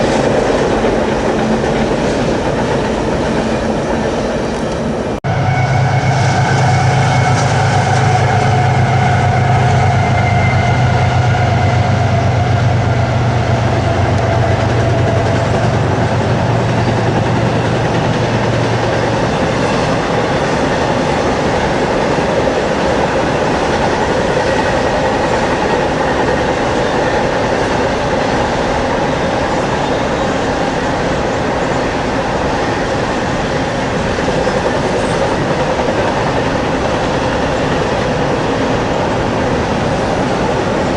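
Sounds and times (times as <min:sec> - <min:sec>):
train cars rumbling and clattering: 0:00.0 - 0:40.9
train engine drone: 0:00.0 - 0:40.9.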